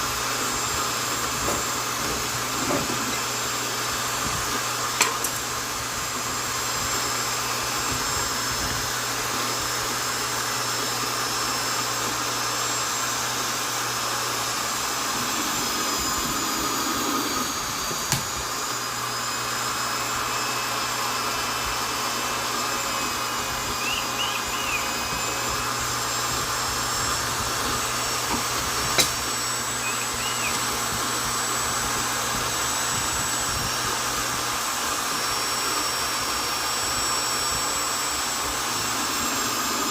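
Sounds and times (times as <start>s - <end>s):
electric drill running: 0.0s - 39.9s.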